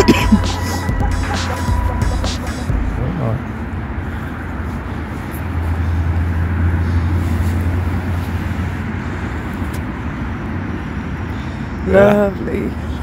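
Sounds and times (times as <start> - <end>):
busy road traffic: 0.0 - 13.0
vehicle passing: 0.0 - 13.0.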